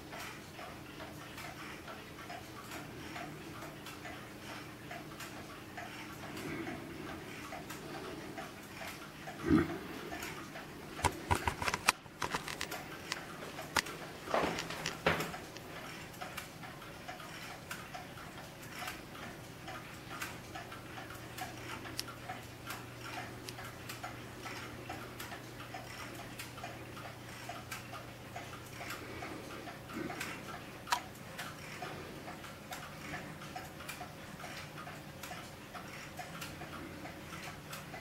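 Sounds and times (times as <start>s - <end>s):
wall clocks ticking: 0.0s - 38.0s.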